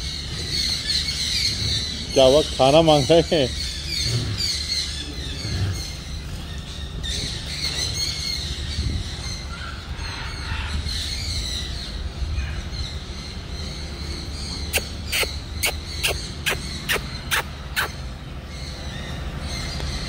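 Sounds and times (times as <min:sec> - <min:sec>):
low steady rumble: 0:00.0 - 0:20.0
small birds chirping: 0:00.0 - 0:20.0.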